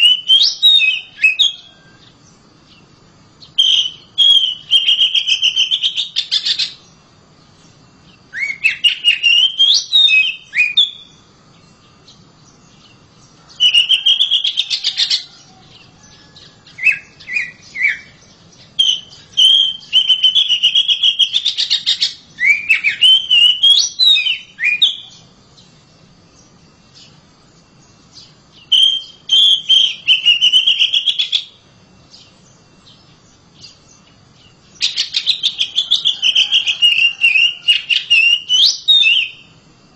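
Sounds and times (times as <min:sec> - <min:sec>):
bird singing whistled notes: 0:00.0 - 0:07.0, 0:07.7 - 0:39.6.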